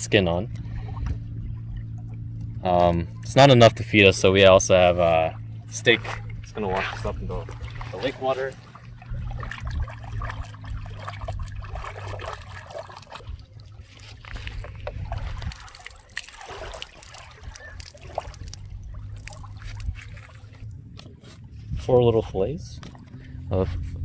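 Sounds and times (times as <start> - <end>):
low steady rumble: 0.0 - 24.0
water trickling and splashing: 0.0 - 24.0.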